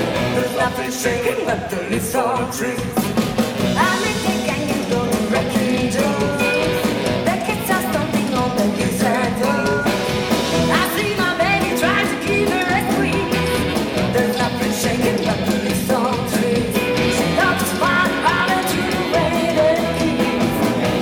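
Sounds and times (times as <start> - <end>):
rock and roll band playing: 0.0 - 21.0.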